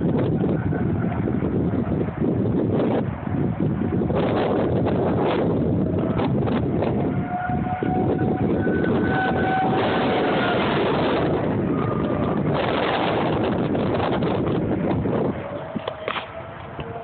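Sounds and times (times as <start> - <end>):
distant warning siren wailing: 0.0 - 17.0
wind buffeting microphone: 0.0 - 17.0.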